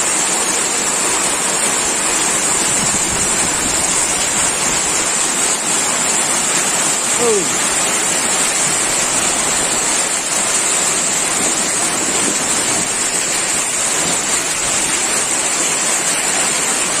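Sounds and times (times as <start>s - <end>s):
heavy rain on metal roofs: 0.0s - 17.0s.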